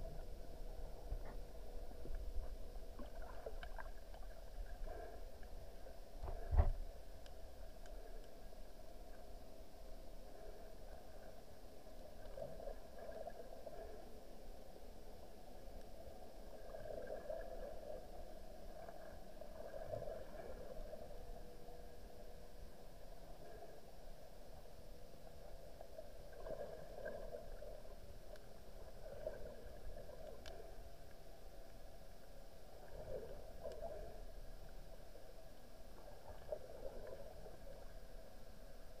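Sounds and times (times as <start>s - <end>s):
muffled underwater hiss: 0.0s - 39.0s
soft swells of water noise: 0.0s - 39.0s.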